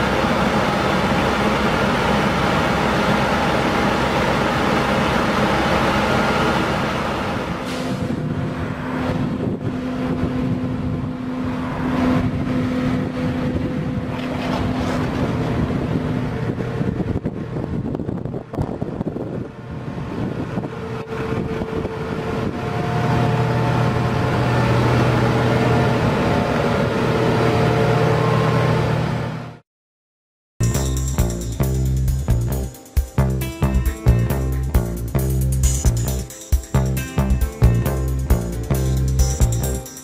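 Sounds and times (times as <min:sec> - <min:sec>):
road roller diesel engine: 0:00.0 - 0:29.6, 0:30.6 - 0:40.0.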